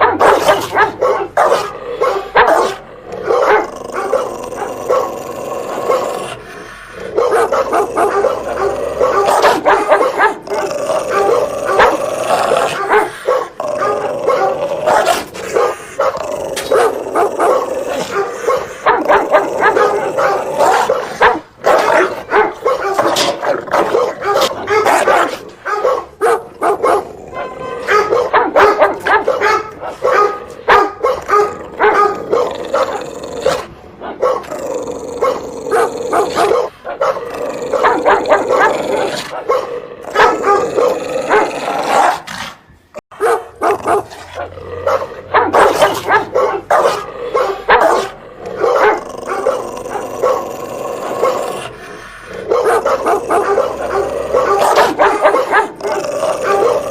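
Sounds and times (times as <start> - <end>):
dog barking: 0.0 - 5.2, 5.8 - 6.2, 7.0 - 34.5, 35.2 - 42.3, 43.1 - 56.9.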